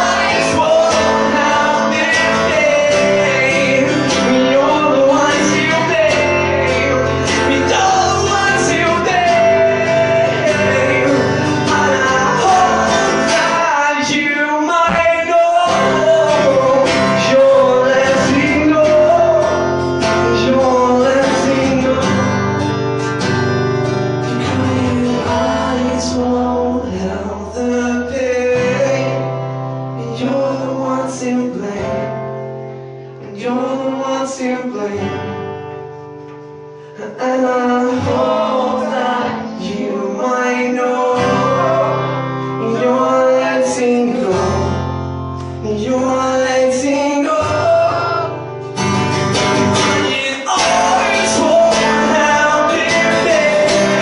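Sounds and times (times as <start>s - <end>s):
acoustic guitar: 0.0s - 54.0s.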